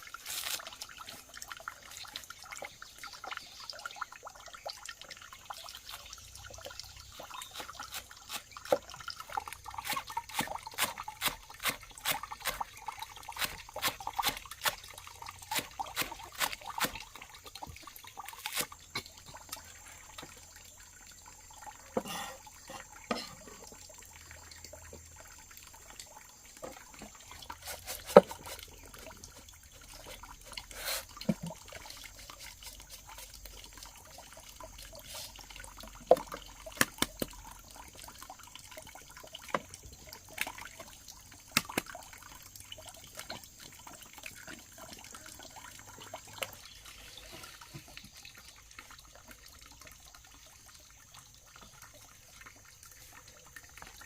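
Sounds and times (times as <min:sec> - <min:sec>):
water trickling and sloshing: 0:00.0 - 0:54.0.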